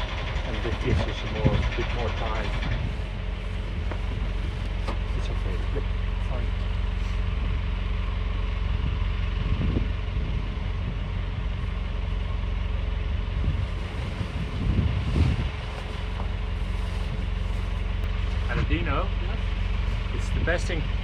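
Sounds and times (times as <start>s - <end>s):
boat engine low pulsing hum: 0.0s - 21.0s.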